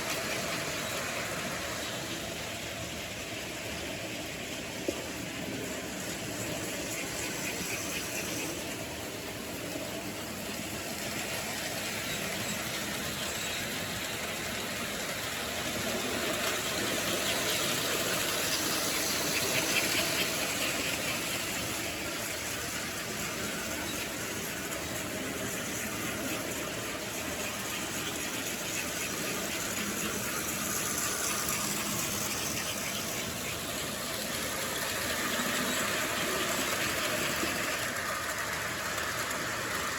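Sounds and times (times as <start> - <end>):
model train motor whirring: 0.0 - 39.9.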